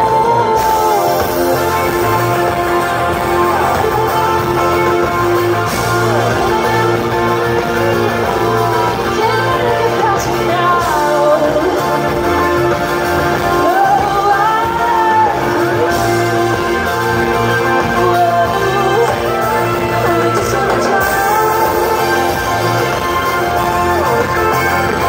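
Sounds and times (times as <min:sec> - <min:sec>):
bass guitar: 0:00.0 - 0:25.0
drums: 0:00.0 - 0:25.0
electric guitar: 0:00.0 - 0:25.0
female lead vocal singing: 0:00.0 - 0:25.0.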